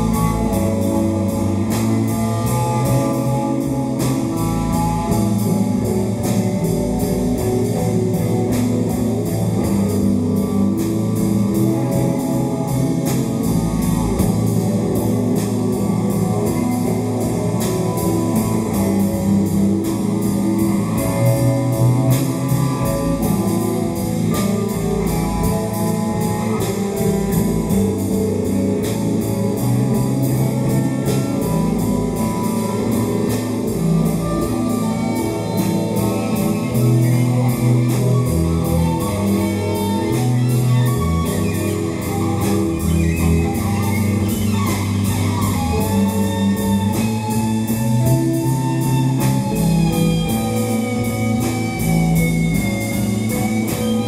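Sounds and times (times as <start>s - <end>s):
live rock band playing: 0.0s - 54.0s
steady drum beat: 0.0s - 54.0s.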